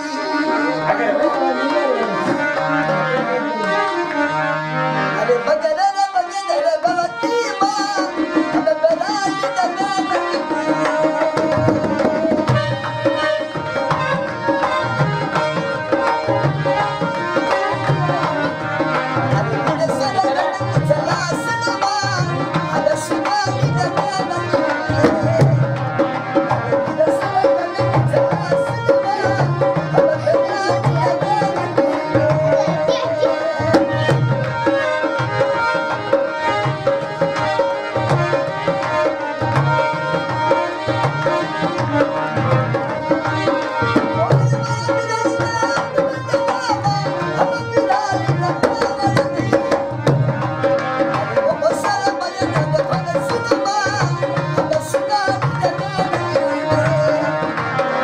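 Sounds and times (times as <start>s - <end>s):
harmonium melody: 0.0s - 58.0s
man singing: 0.0s - 58.0s
hand drum beat: 10.0s - 58.0s.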